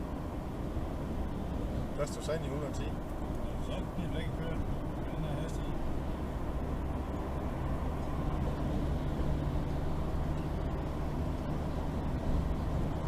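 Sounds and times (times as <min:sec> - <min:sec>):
faint engine hum: 0:00.0 - 0:13.0
road and wind noise in car: 0:00.0 - 0:13.0.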